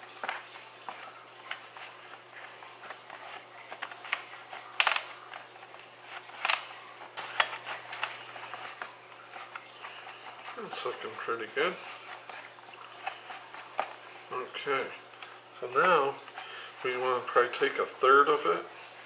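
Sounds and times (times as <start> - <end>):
hands kneading dough: 0.0 - 19.0.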